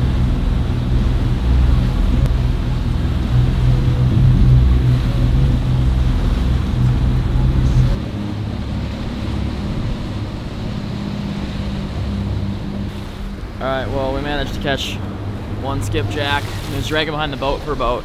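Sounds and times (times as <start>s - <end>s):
wind noise: 0.0s - 16.8s
outboard motors humming: 0.0s - 18.0s
water and wake: 0.0s - 18.0s.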